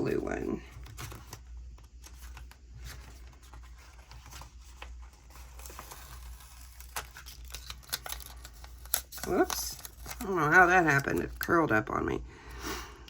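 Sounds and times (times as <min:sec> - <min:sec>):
sticker sheets rustling: 0:00.1 - 0:11.6.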